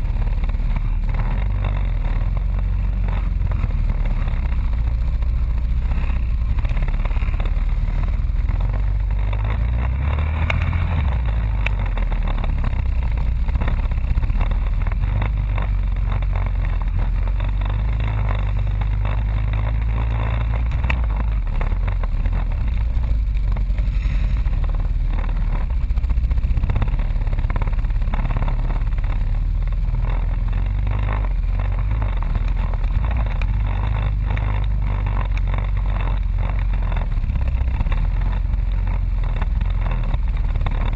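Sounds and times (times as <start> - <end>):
knocks and rattles on rough trail: 0.0 - 40.9
quad bike engine running: 0.0 - 40.9.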